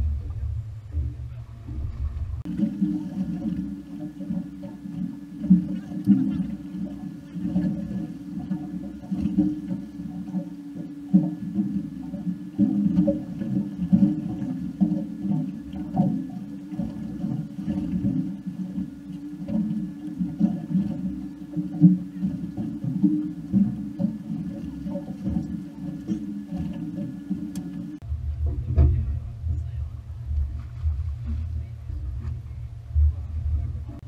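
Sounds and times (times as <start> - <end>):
muffled rumble of wind and sea: 0.0 - 34.0.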